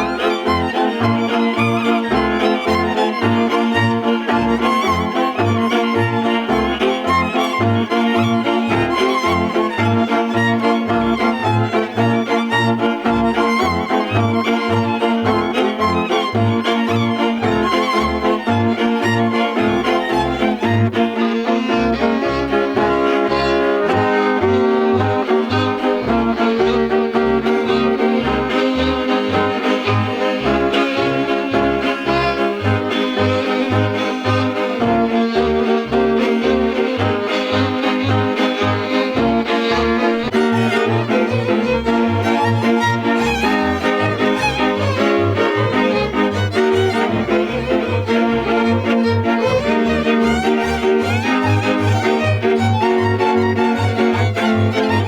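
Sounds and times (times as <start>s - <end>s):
double bass bowed strokes: 0.0s - 55.0s
fiddle playing melody: 0.0s - 55.0s
sustained bowed chords: 0.0s - 55.0s.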